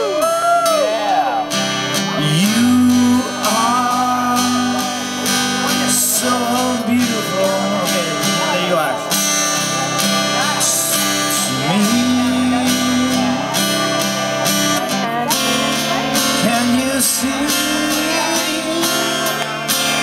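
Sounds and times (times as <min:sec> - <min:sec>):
acoustic guitar strumming: 0:00.0 - 0:20.0
man singing ballad: 0:00.0 - 0:20.0.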